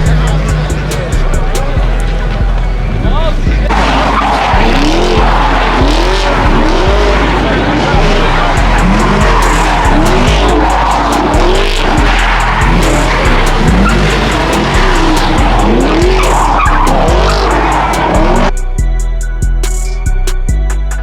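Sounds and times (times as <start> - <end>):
car tyres squealing: 0.0 - 18.6
car engines revving: 0.0 - 21.0
hip-hop beat: 0.0 - 21.0.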